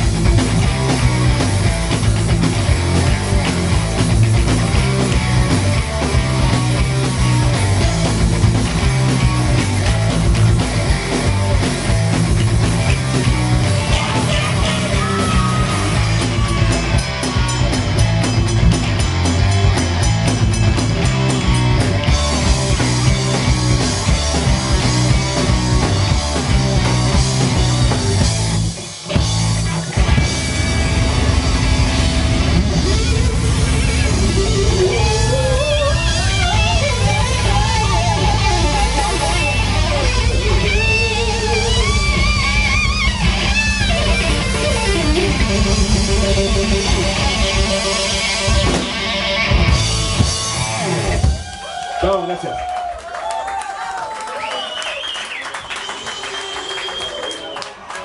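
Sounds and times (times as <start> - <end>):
drum kit beat: 0.0 - 51.6
electric guitars: 0.0 - 52.2.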